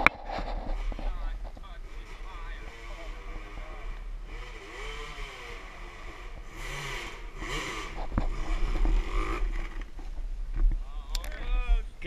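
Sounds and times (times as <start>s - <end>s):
dirt bike engines revving: 0.0s - 10.4s
low rumble: 0.0s - 12.0s.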